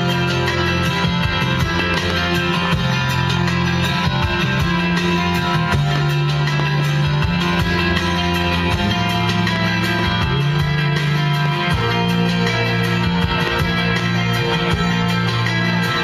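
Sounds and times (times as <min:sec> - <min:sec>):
guitar music with low held notes: 0:00.0 - 0:16.0.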